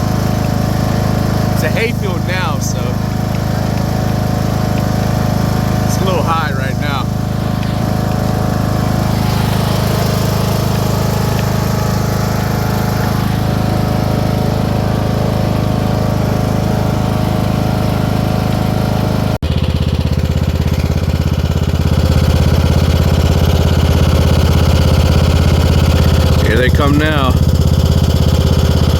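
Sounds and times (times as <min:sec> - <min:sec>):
deeper pulsing engine: 0:00.0 - 0:28.9
motor engine running: 0:00.0 - 0:28.9.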